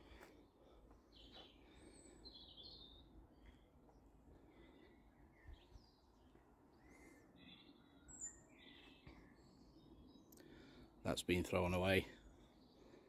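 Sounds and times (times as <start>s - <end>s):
birdsong chirps and whistles: 0.0s - 11.0s, 12.2s - 13.0s.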